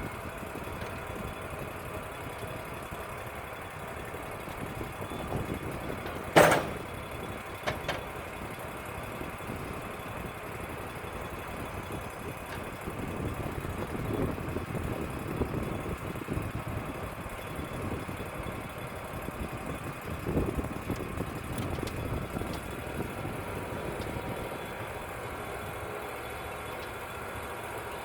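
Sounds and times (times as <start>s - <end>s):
sawmill engine running: 0.0s - 28.0s.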